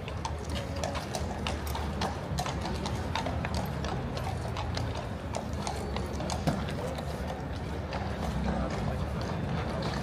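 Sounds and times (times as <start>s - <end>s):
horse hooves clopping: 0.0s - 10.0s.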